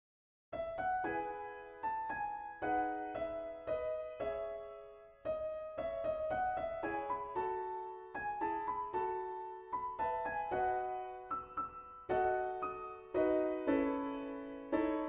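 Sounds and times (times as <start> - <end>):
solo piano piece: 0.6 - 15.0.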